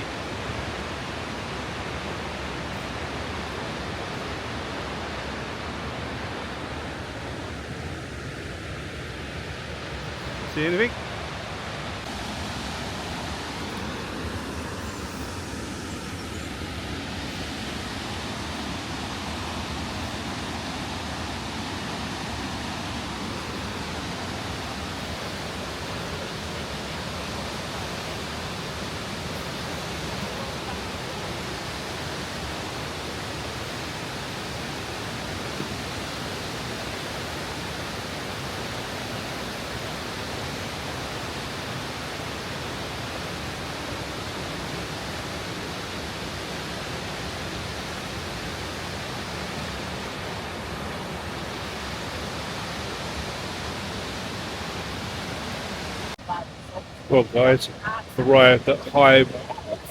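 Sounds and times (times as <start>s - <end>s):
fast-flowing water rushing: 0.0s - 59.9s.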